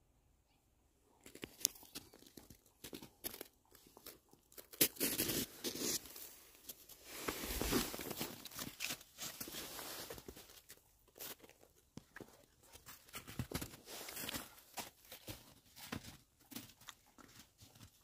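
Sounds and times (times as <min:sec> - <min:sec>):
dogs crunching in snow: 0:02.8 - 0:18.0.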